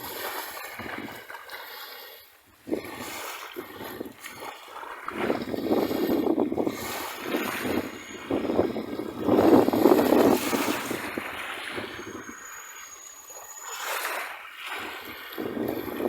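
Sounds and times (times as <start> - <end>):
sea waves breaking: 0.0 - 16.0.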